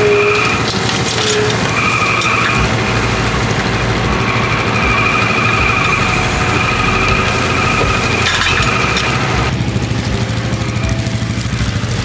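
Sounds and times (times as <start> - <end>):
dirt spilling into metal cart: 0.0 - 12.0
high hydraulic whine: 0.0 - 12.0
skid steer engine running: 0.0 - 12.0.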